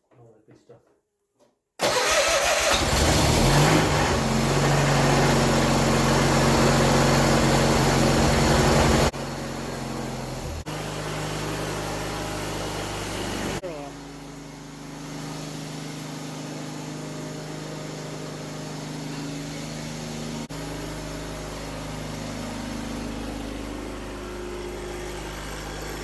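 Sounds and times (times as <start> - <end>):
garden tractor engine running: 1.8 - 26.0.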